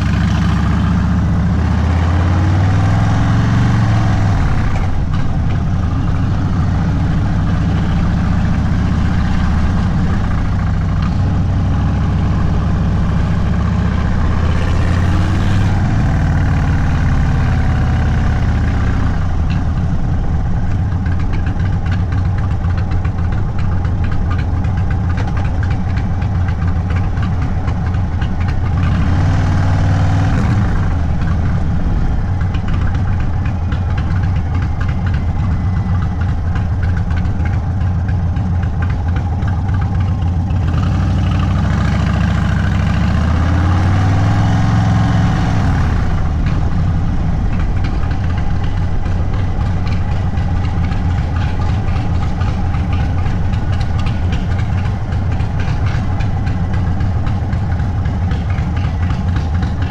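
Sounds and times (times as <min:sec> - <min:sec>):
motorcycle engine running and revving: 0:00.0 - 0:59.9.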